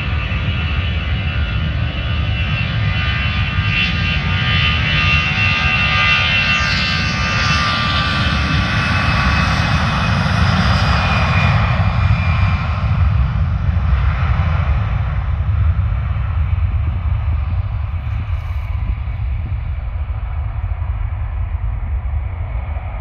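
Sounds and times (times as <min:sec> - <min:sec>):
airplane engine rumble: 0:00.0 - 0:23.0
high engine whine: 0:00.0 - 0:23.0.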